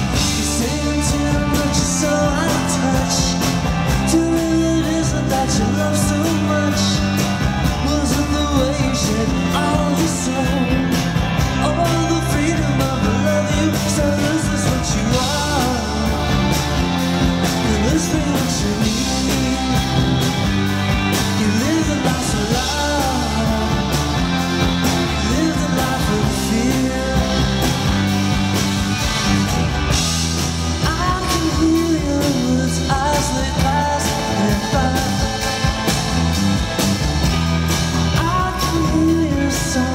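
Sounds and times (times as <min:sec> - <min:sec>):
man singing: 0:00.0 - 0:28.1, 0:30.8 - 0:36.4, 0:38.0 - 0:39.9
rock band playing: 0:00.0 - 0:39.9.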